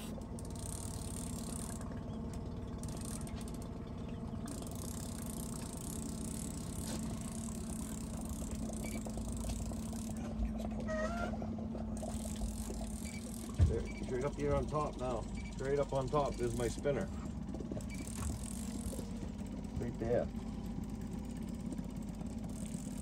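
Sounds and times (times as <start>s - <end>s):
outboard motor humming: 0.0s - 23.0s.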